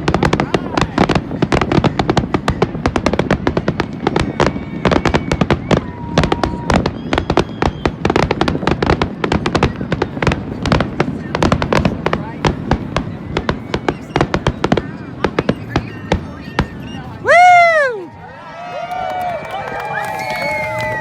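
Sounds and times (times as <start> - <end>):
fireworks bangs and crackles: 0.0 - 18.2, 18.9 - 21.0.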